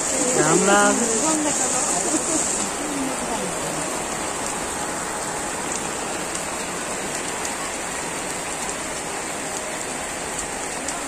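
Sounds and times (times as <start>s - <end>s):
heavy rain on wet road: 0.0s - 11.0s.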